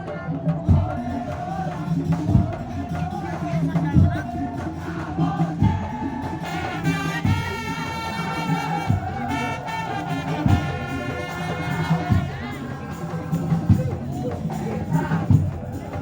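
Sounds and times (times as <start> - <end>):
busy percussion: 0.0 - 16.0.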